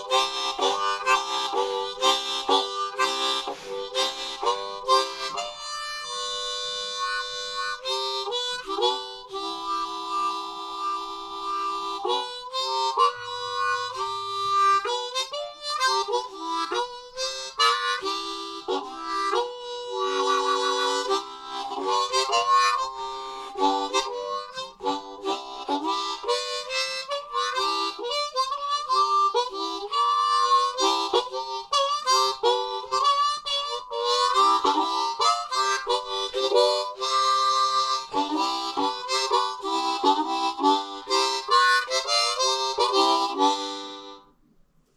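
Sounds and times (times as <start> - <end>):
harmonica playing blues: 0.0 - 44.4.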